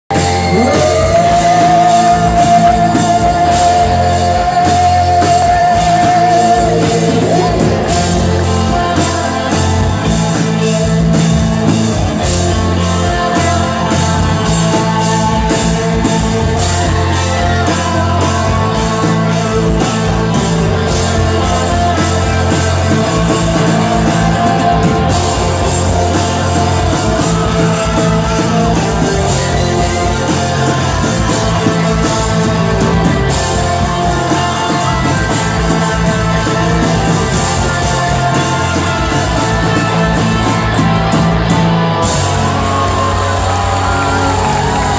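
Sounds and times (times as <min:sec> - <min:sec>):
drum kit: 0:00.0 - 0:44.9
electric guitars: 0:00.0 - 0:44.9
man singing long notes: 0:00.1 - 0:44.9.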